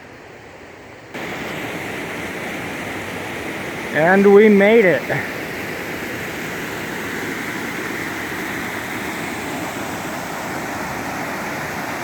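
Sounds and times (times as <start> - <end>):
waterfall rushing: 1.2 - 12.0.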